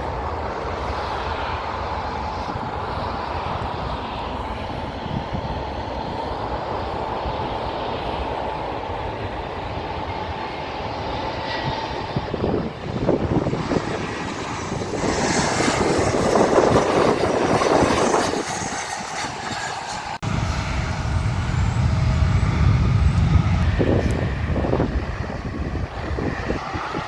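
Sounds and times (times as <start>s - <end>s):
jet airliner passing overhead: 0.0s - 27.0s
steady low rumble: 0.0s - 27.0s.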